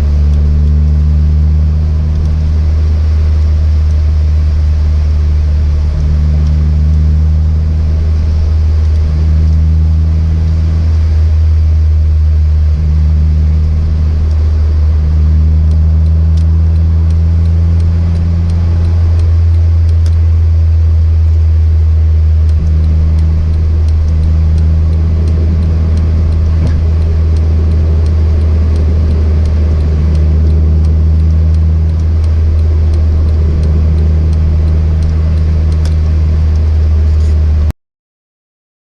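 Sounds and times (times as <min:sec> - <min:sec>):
car engine and road noise drone: 0:00.0 - 0:37.7
higher-pitched hum: 0:00.0 - 0:37.7.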